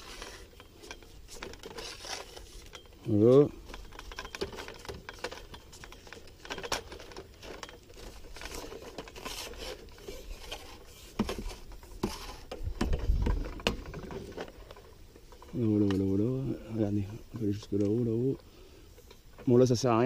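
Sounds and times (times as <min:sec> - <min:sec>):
metal pole sections scraping: 0:00.0 - 0:20.0.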